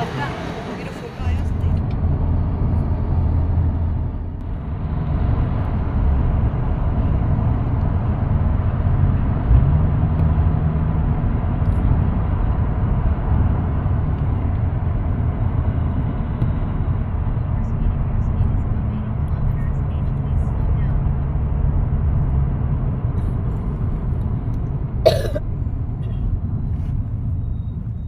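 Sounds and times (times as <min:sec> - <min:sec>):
car cabin road rumble: 0:00.0 - 0:28.0.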